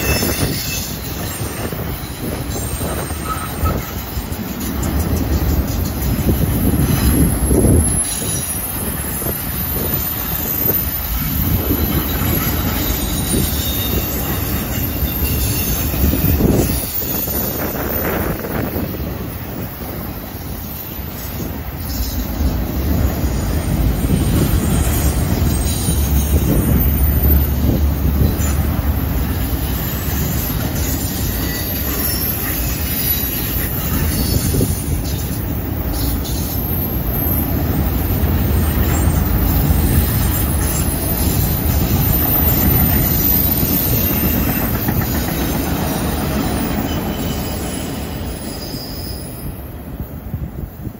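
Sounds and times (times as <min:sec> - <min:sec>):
faint high wheel squeal: 0:00.0 - 0:23.1, 0:24.0 - 0:49.8
train wheels rumbling on rails: 0:00.0 - 0:50.9.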